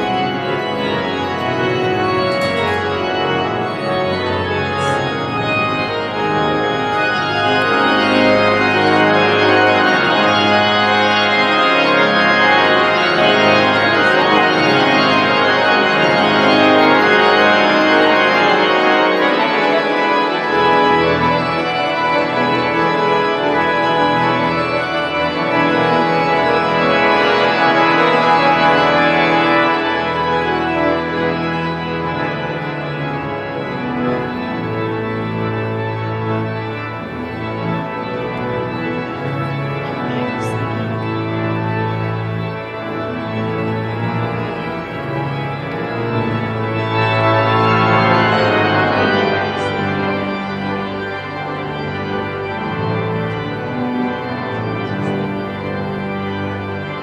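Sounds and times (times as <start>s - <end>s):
pipe organ chords: 0.0s - 57.0s.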